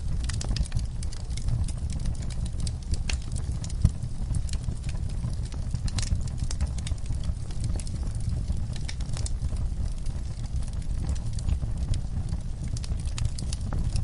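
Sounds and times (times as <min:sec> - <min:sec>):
campfire crackling and popping: 0:00.0 - 0:14.0
steady low rumble: 0:00.0 - 0:14.0.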